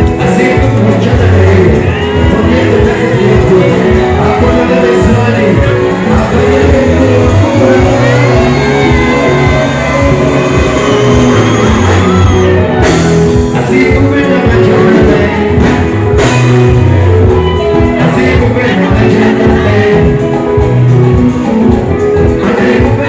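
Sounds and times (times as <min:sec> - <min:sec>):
live band music: 0:00.0 - 0:23.0
person singing: 0:00.0 - 0:23.0.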